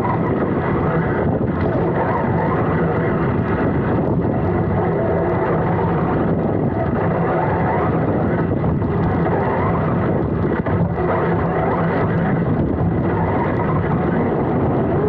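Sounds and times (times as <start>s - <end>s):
rc car rattling and rumbling: 0.0s - 15.0s.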